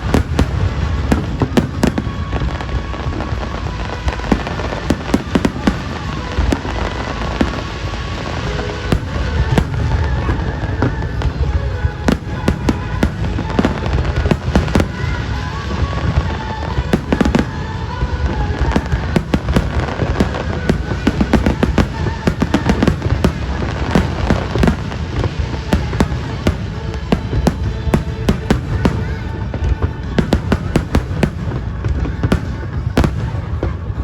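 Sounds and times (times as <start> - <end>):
fireworks bursting: 0.0 - 34.0
music playing: 0.0 - 34.0.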